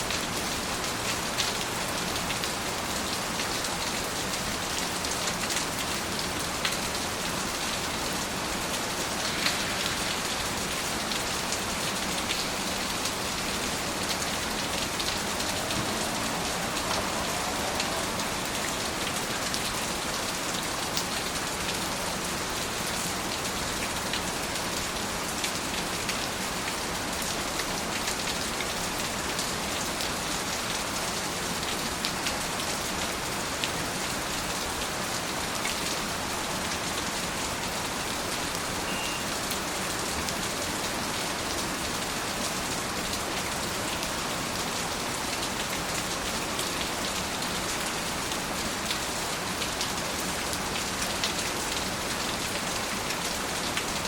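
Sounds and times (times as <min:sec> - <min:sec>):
steady dense rainfall: 0:00.0 - 0:54.0.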